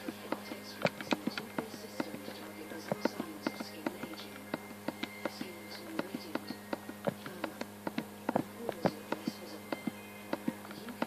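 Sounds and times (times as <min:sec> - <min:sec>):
faint video game music: 0:00.0 - 0:11.0
steady low hum: 0:00.0 - 0:11.0.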